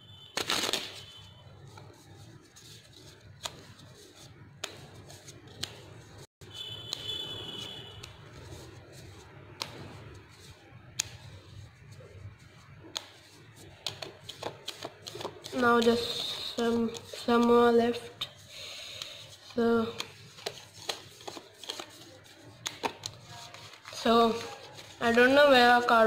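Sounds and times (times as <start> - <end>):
deck of cards rustling: 0.4 - 6.3, 7.6 - 26.0.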